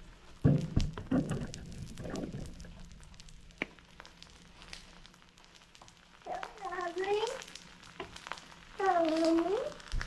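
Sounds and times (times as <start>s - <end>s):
eggs frying in oil: 0.0s - 10.0s.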